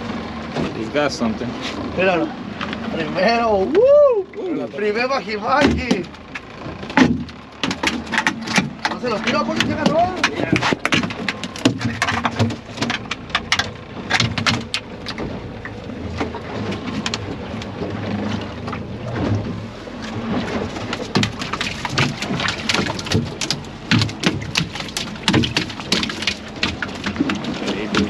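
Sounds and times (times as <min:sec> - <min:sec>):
steady low rumble: 0:00.0 - 0:28.0
fish slapping on boat floor: 0:05.3 - 0:28.0.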